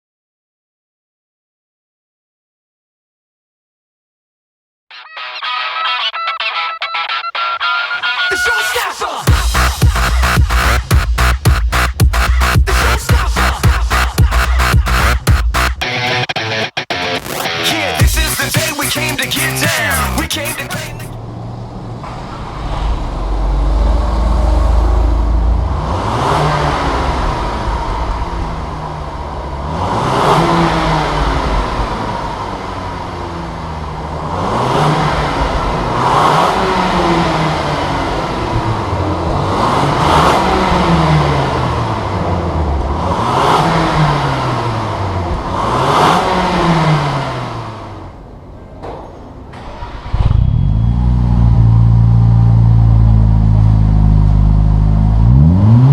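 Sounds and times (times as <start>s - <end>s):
car engine revving: 9.1s - 48.5s, 49.6s - 55.9s.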